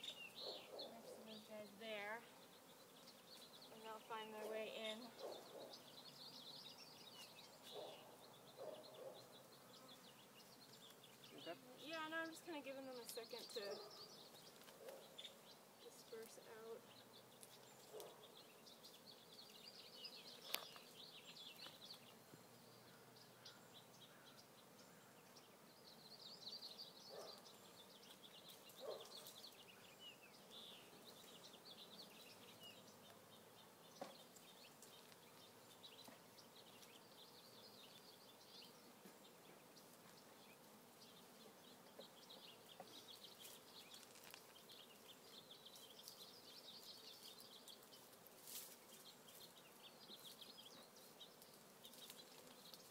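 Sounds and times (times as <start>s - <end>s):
bees buzzing: 0.0s - 52.9s.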